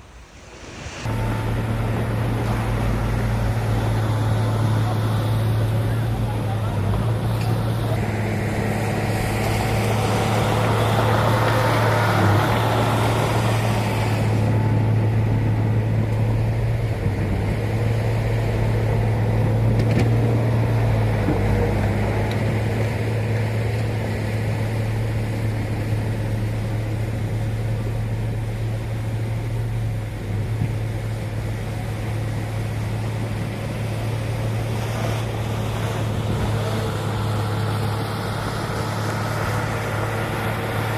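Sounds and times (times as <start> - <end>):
diesel engine humming: 1.0 - 40.9.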